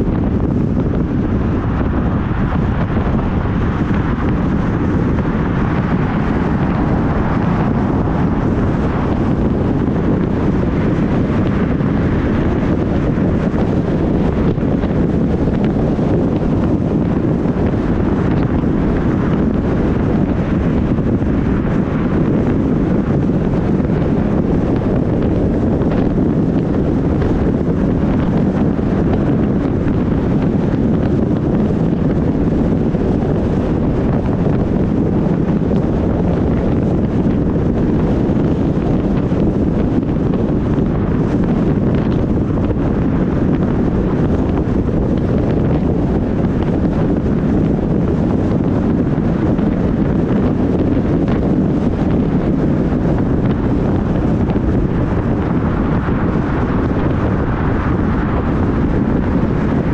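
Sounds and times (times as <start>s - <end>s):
low rumble: 0.0s - 59.9s
wind buffeting microphone: 0.0s - 59.9s.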